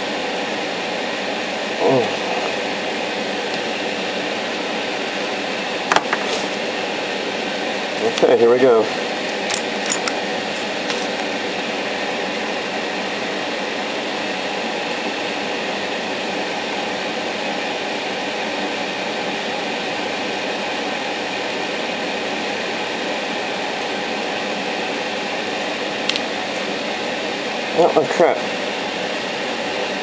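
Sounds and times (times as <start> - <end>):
exhaust fan running: 0.0 - 30.0.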